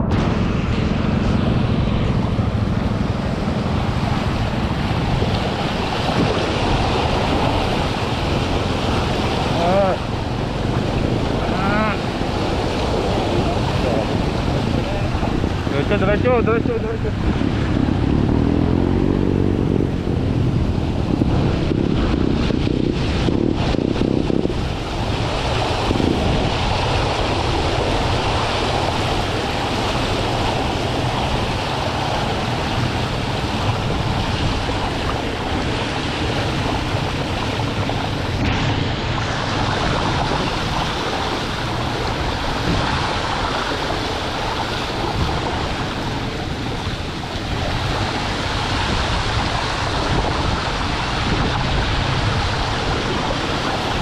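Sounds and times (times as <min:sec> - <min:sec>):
bike tyres splashing through water: 0:00.0 - 0:54.0
wind noise on microphone: 0:00.0 - 0:54.0.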